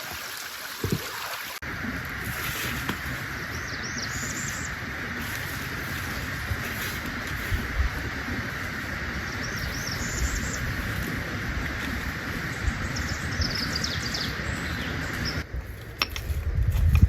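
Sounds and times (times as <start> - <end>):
steady outdoor hiss: 0.0 - 17.0
wind rumbling on microphone: 1.6 - 17.0.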